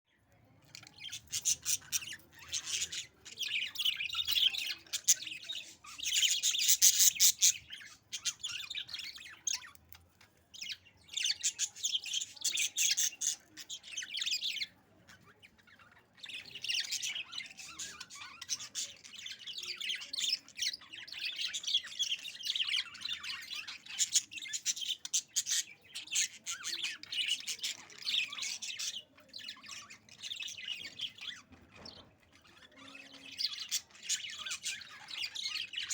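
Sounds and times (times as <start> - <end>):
budgies chattering: 0.1 - 35.9.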